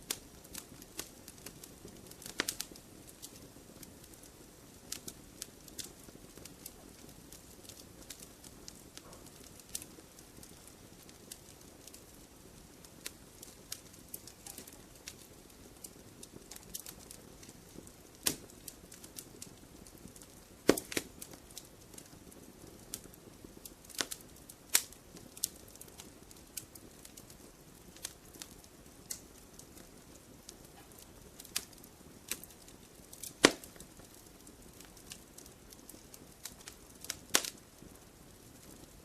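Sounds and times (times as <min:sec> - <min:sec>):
faint low hiss: 0:00.0 - 0:39.0
fire crackling and popping: 0:00.0 - 0:39.0.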